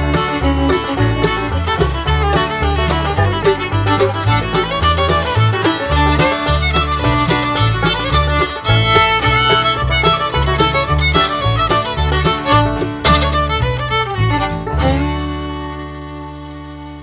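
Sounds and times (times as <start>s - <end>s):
bass beat: 0.0s - 16.9s
fiddle: 0.0s - 17.0s
guitar: 0.0s - 17.0s.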